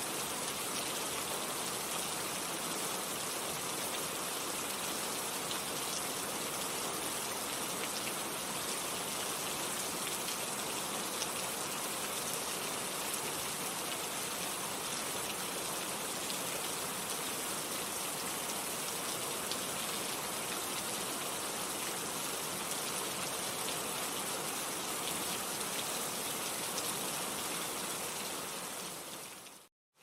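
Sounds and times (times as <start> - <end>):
heavy rain: 0.0 - 29.7.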